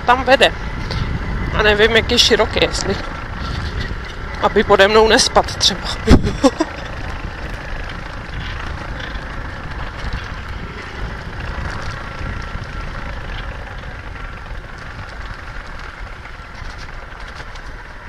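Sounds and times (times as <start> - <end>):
motorbike engine running: 0.0 - 18.0.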